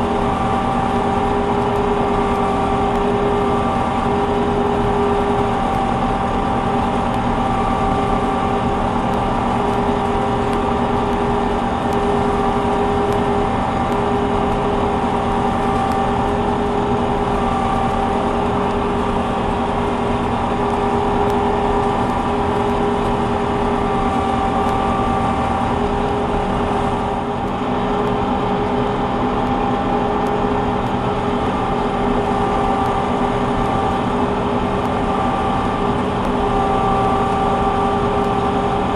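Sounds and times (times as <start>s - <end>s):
combine harvester drone: 0.0s - 38.9s.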